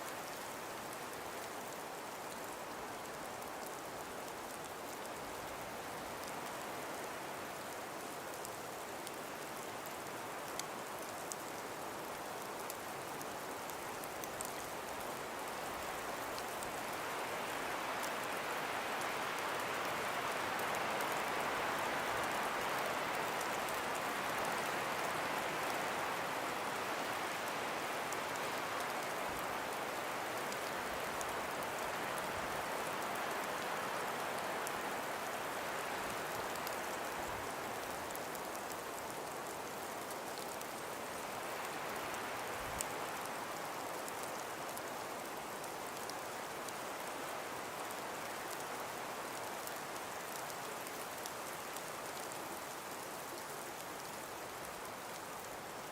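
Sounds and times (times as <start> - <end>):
wind blowing through trees: 0.0 - 55.9.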